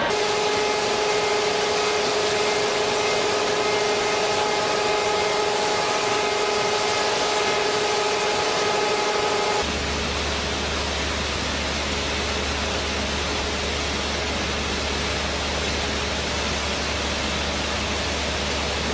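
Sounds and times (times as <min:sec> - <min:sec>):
machine whine: 0:00.0 - 0:18.9.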